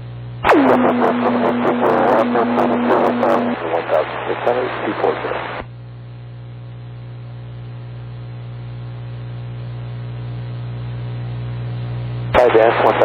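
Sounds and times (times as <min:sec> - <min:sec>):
radio electrical hum and hiss: 0:00.0 - 0:13.0.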